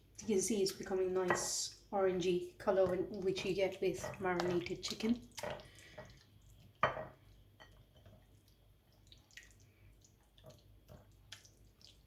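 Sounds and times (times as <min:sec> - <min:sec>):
wet squelches of mixing by hand: 0:00.0 - 0:12.0.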